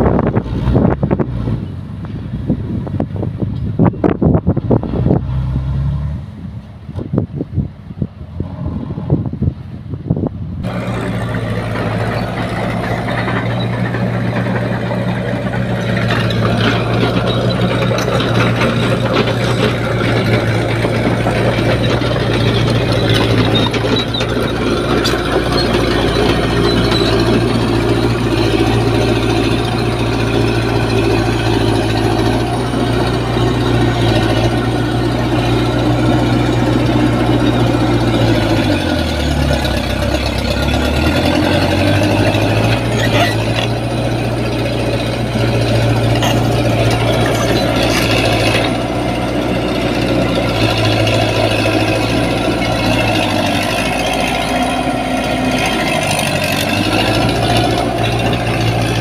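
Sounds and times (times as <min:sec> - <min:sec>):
excavator running: 0:00.0 - 0:59.0
heavy diesel truck engine: 0:00.0 - 0:59.0.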